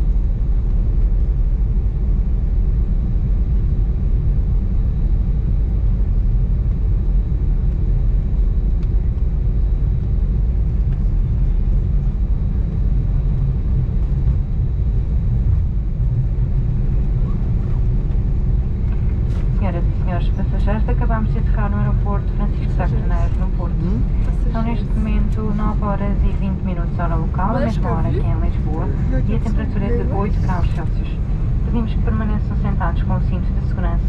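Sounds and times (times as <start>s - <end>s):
aircraft cabin rumble: 0.0s - 34.0s.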